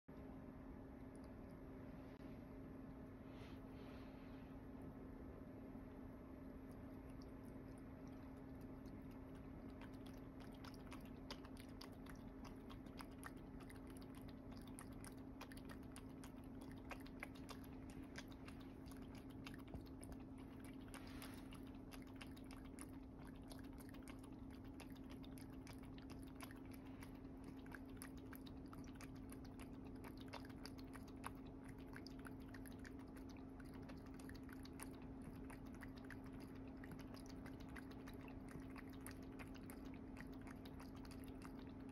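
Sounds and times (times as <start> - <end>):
low hum: 0.1 - 41.9
cat lapping water: 5.6 - 41.9.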